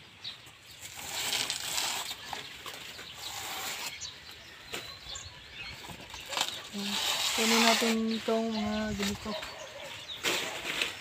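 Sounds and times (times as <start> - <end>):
dry leaves rustling and tearing: 0.5 - 4.9, 5.8 - 11.0.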